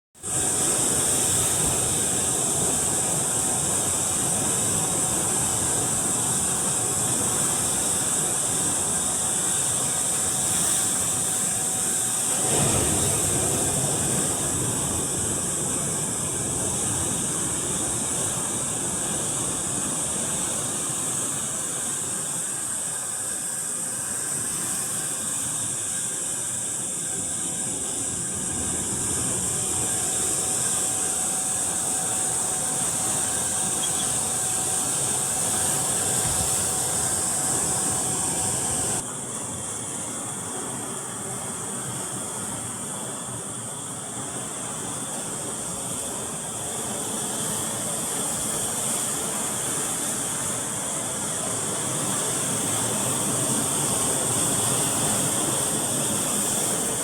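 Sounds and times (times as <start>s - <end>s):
insect chorus buzzing: 0.2s - 57.0s.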